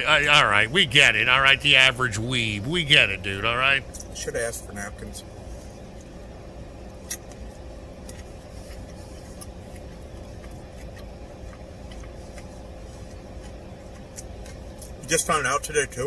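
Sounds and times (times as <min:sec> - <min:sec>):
faint constant hum: 0:00.0 - 0:16.0
low background rumble: 0:00.0 - 0:16.0.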